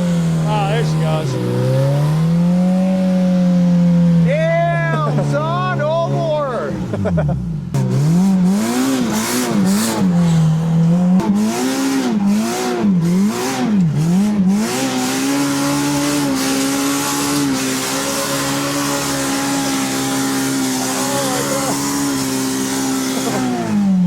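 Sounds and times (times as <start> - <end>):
utv engine revving: 0.0 - 24.0.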